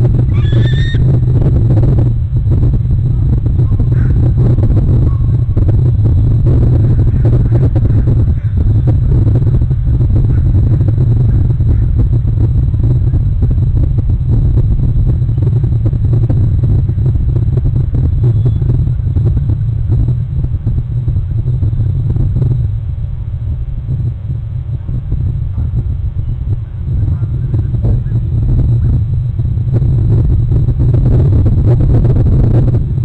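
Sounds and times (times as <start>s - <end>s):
loud low rumble: 0.0s - 33.0s.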